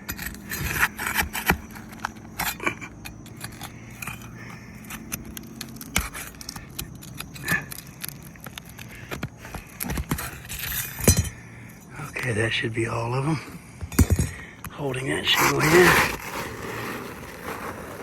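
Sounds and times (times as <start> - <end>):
pry tool scraping shingles: 0.0 - 18.0.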